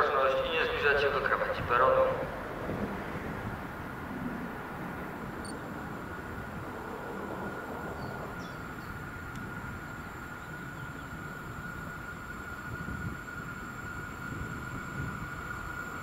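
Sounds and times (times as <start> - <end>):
constant high hum: 0.0 - 16.0
electric train rumbling: 0.0 - 16.0.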